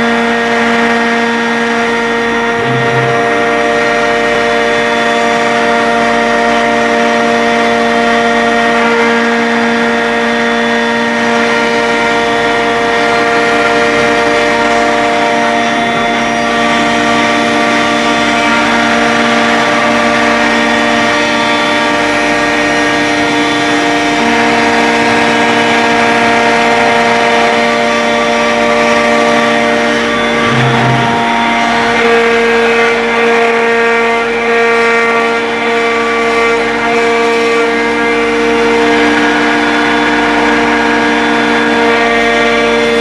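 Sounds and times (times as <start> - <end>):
cnc router whining: 0.0 - 43.0.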